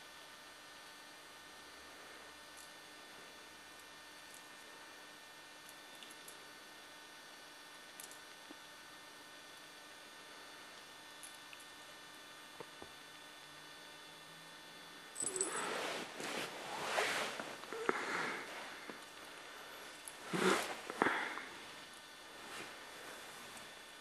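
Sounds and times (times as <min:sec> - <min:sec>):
faint hum and hiss: 0:00.0 - 0:24.0.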